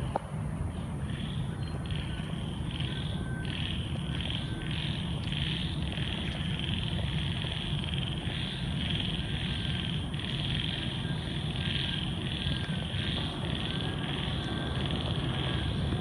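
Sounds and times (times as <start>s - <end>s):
steady low rumble: 0.0s - 16.0s
frogs croaking in chorus: 0.7s - 16.0s.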